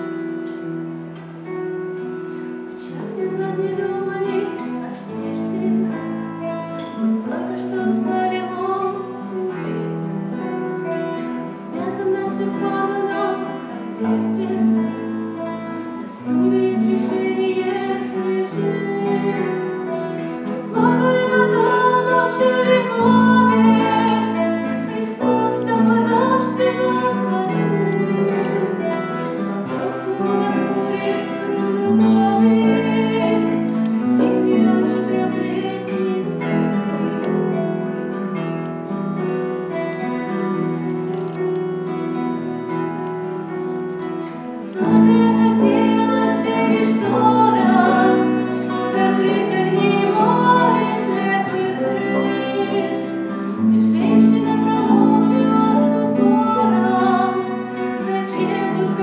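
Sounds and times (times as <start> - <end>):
keyboard: 0.0 - 59.0
strummed acoustic guitars: 0.0 - 59.0
woman singing: 2.7 - 38.2, 44.6 - 59.0.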